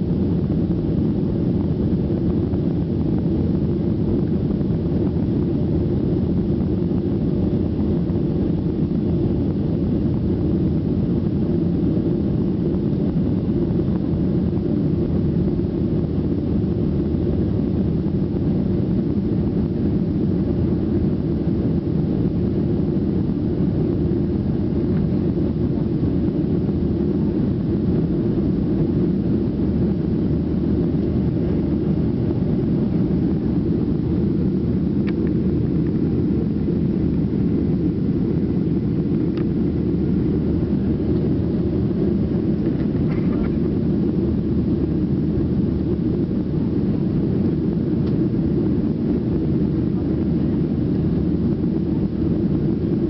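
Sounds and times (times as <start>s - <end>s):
airflow over fuselage: 0.0s - 53.0s
jet engines droning: 0.0s - 53.0s.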